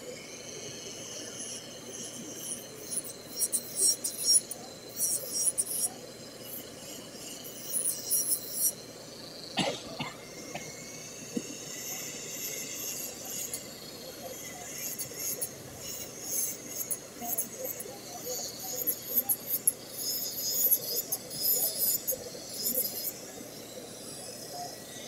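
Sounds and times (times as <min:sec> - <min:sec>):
electric nail drill grinding: 0:00.0 - 0:08.8, 0:10.3 - 0:25.0.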